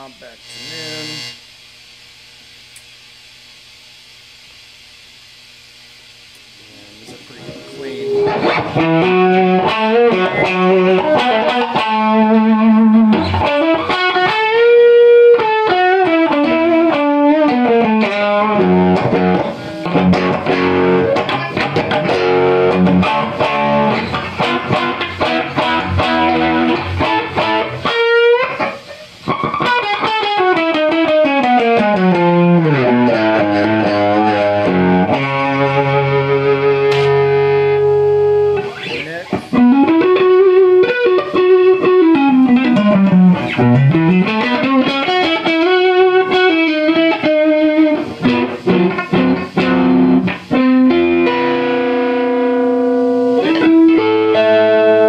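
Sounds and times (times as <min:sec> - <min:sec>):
electric guitar with fuzz sustain: 0:00.0 - 0:55.0.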